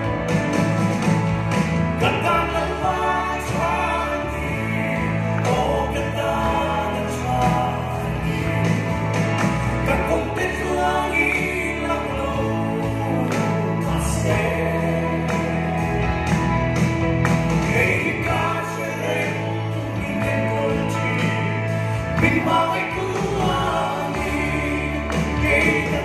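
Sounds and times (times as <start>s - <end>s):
band playing: 0.0s - 26.0s
man singing gospel: 1.9s - 16.3s, 17.6s - 26.0s.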